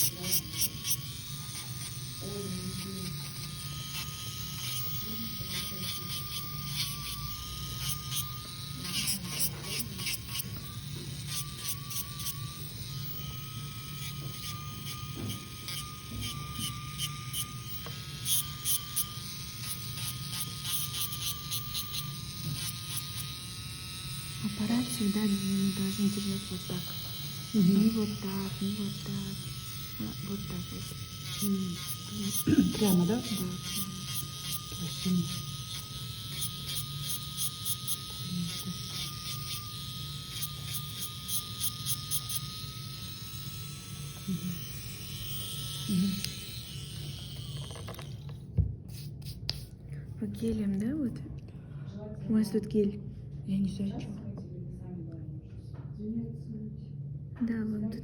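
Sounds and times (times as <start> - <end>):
drill bit scraping nail: 0.0 - 23.5, 24.1 - 48.4
electric nail drill whine: 0.0 - 49.1.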